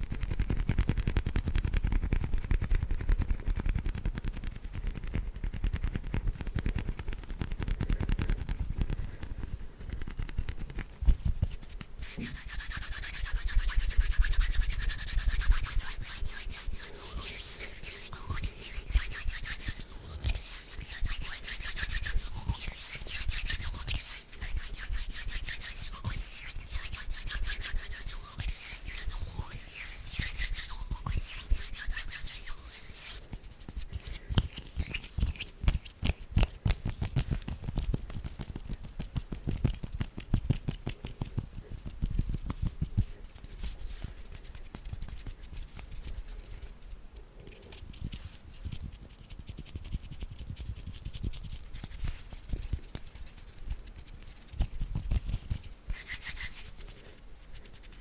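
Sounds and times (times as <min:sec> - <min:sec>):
hands rubbing skin on skin: 0:00.0 - 0:58.0.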